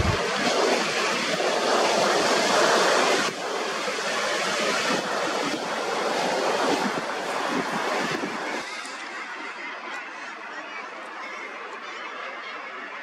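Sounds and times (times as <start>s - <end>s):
sea surf washing: 0.0s - 11.2s.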